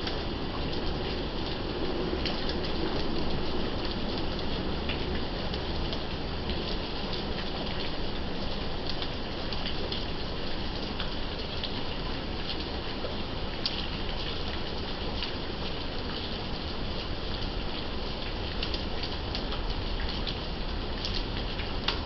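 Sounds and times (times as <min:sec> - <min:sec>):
heavy rain falling: 0:00.0 - 0:22.0
raindrops ticking: 0:00.0 - 0:22.0.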